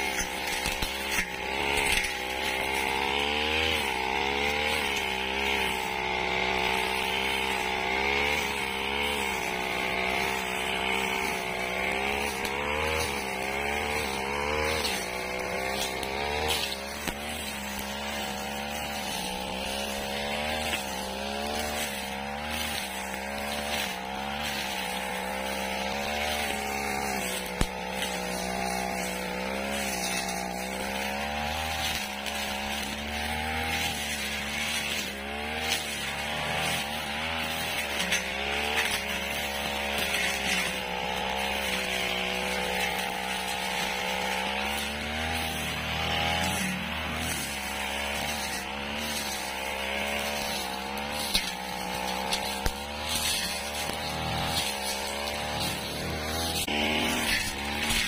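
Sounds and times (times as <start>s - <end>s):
blade sweeping through dry grass: 0.0s - 58.0s
brush cutter engine running: 0.0s - 58.0s.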